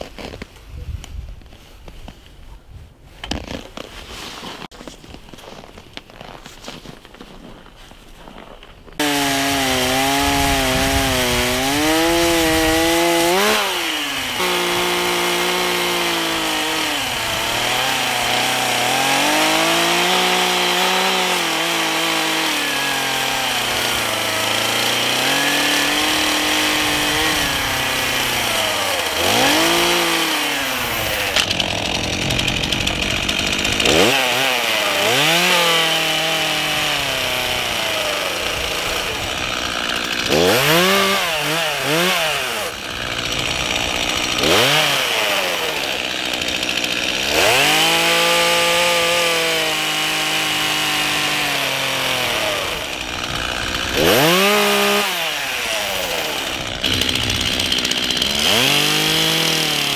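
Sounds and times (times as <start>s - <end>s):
chainsaw cutting log: 9.0s - 59.9s.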